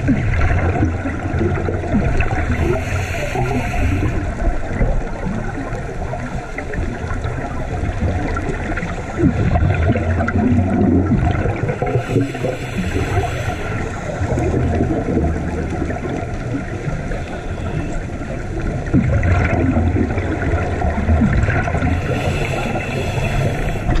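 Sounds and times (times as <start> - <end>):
water gurgling and bubbling: 0.0 - 24.0.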